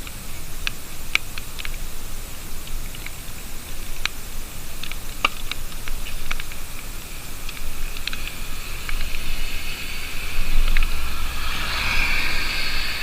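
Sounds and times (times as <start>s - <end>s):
raindrops ticking on surfaces: 0.0s - 11.9s
rain hiss: 0.0s - 13.0s.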